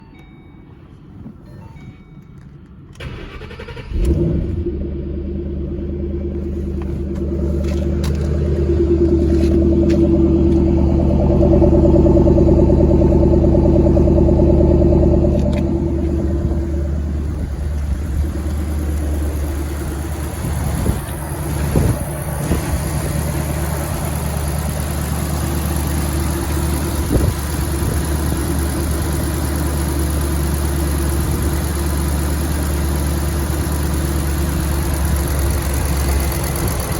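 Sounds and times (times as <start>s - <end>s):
car engine starting: 2.4s - 36.9s
car engine idling: 3.0s - 36.9s.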